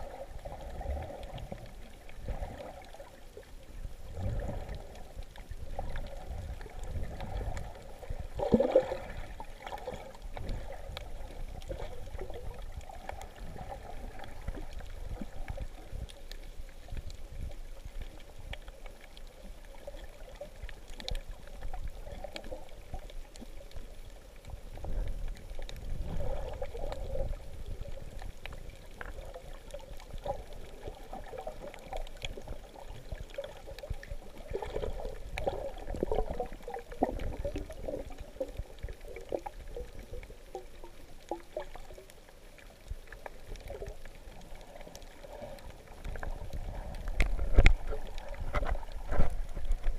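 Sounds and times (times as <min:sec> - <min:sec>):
muffled water sloshing underwater: 0:00.0 - 0:49.9.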